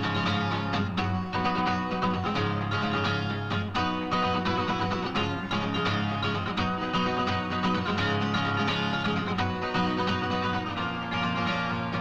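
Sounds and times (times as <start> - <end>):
guitar playing rapid runs: 0.0 - 12.0.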